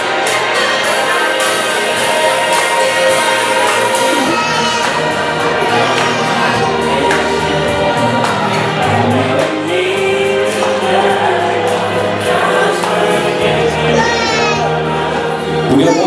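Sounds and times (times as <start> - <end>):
pop music with vocals: 0.0 - 16.0.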